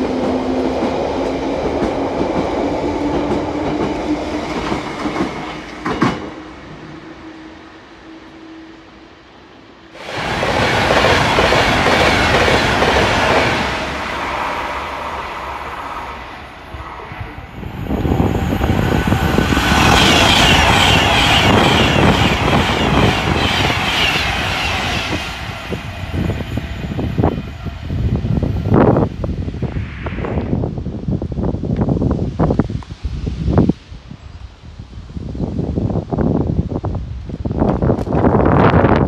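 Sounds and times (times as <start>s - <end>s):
rush of rail noise: 0.0s - 39.0s.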